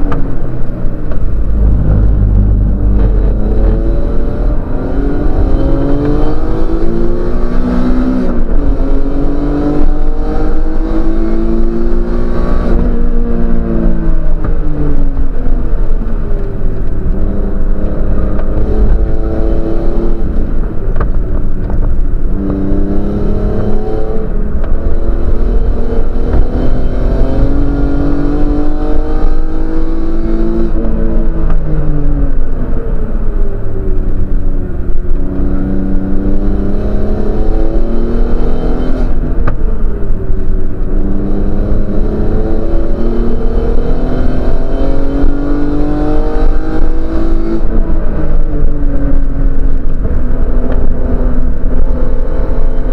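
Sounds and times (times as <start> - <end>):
low road and cabin rumble: 0.0 - 52.9
race car engine revving: 0.0 - 52.9.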